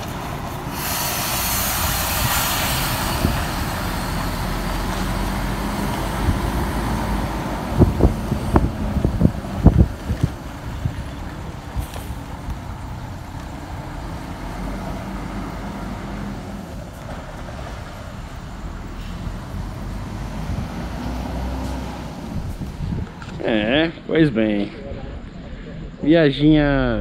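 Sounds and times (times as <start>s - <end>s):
bus diesel engine rumbling: 0.0s - 27.0s.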